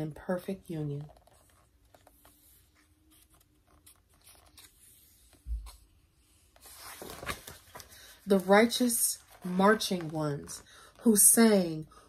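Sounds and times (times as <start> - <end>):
book handling rustles and ticks: 0.7 - 11.7.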